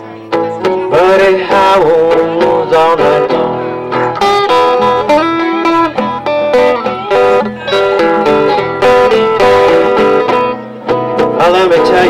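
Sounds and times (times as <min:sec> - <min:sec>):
blues band playing: 0:00.0 - 0:12.0
guitar fill with bent notes: 0:00.0 - 0:12.0
person singing: 0:00.4 - 0:10.6.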